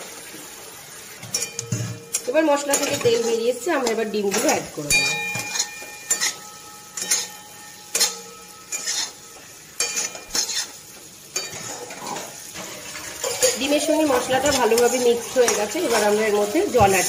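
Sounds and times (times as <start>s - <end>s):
faint sizzling in oil: 0.0s - 17.0s
metal spatula scraping pan: 1.2s - 17.0s.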